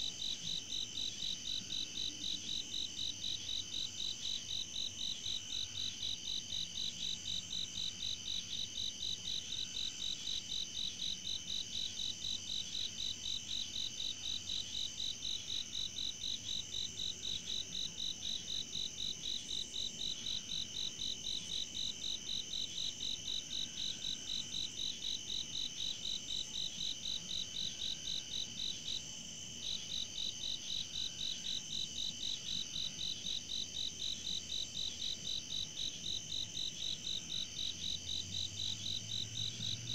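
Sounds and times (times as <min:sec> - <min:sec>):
continuous high insect trill: 0:00.0 - 0:39.9.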